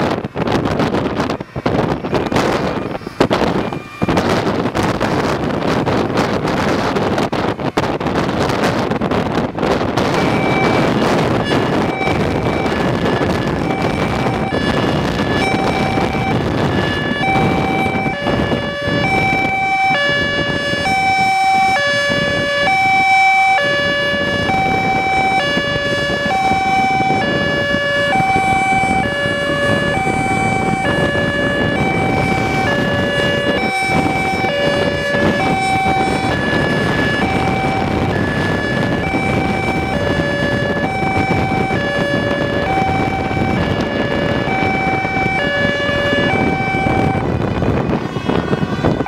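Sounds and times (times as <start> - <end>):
road and engine noise: 0.0 - 49.0
two-tone emergency siren: 0.0 - 49.0.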